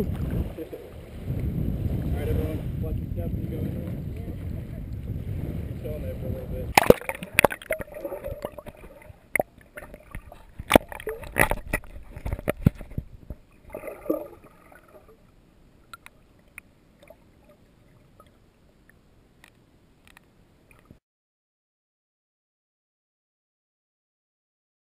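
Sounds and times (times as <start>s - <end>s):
muffled underwater water sloshing: 0.0s - 21.0s.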